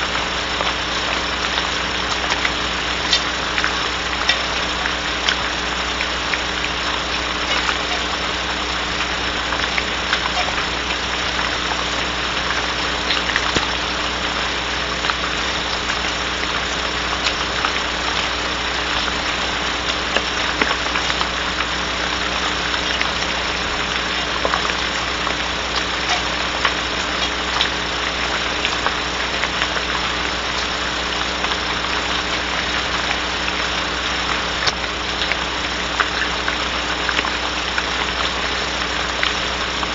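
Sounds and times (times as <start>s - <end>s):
electrical hum: 0.0s - 39.9s
rain hissing: 0.0s - 39.9s
raindrops ticking: 0.0s - 39.9s.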